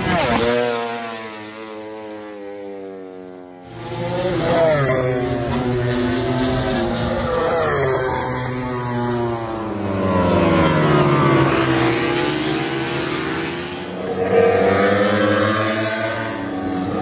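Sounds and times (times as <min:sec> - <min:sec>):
motorcycle engines revving past: 0:00.0 - 0:17.0.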